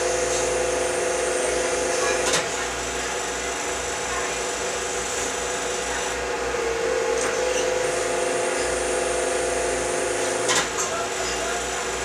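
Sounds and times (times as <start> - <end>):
hydraulic pump whine: 0.0 - 12.0.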